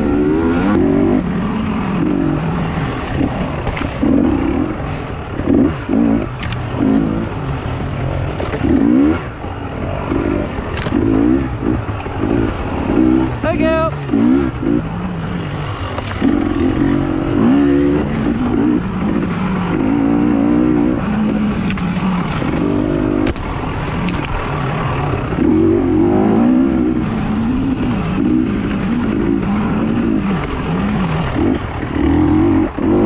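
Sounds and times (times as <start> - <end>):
racing engines revving: 0.0 - 33.0.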